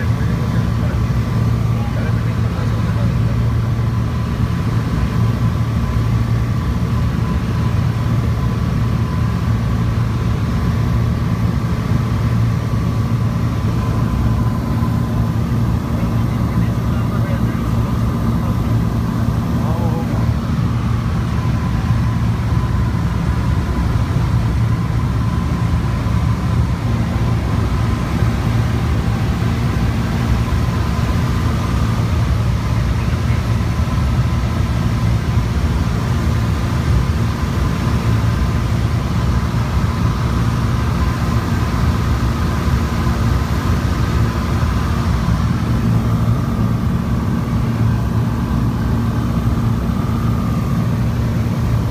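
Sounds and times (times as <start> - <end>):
piston aircraft engine drone: 0.0 - 51.9.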